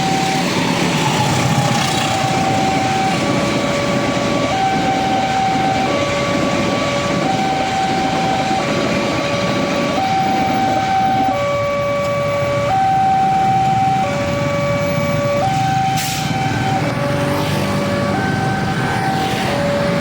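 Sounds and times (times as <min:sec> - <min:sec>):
train rumbling: 0:00.0 - 0:20.0
level crossing two-tone alarm: 0:02.1 - 0:20.0.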